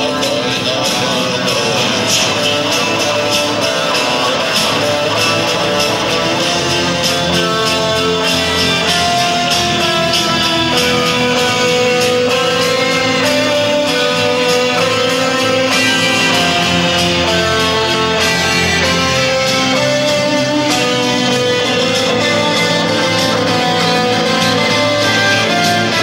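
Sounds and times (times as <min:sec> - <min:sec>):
drums: 0:00.0 - 0:26.0
electric lead guitar melody: 0:00.0 - 0:26.0
strummed guitar: 0:00.0 - 0:26.0.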